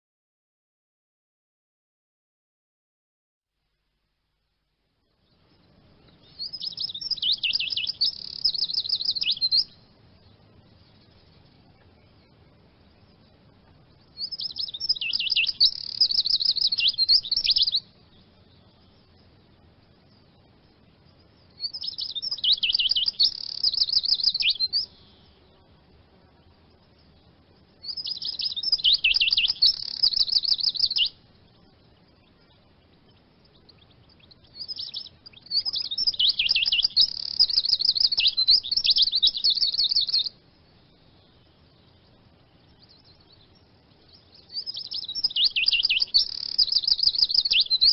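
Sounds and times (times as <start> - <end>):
bird twittering trills: 5.2 - 47.9.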